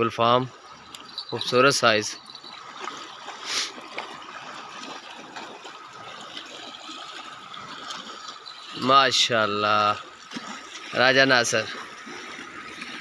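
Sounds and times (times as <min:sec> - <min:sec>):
water lapping at shoreline: 0:00.0 - 0:13.0.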